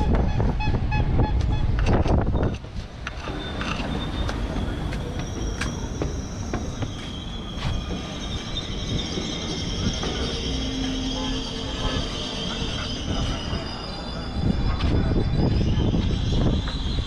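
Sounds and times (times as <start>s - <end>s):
train low rumble: 0.0s - 17.0s
train wheels squealing: 1.5s - 17.0s.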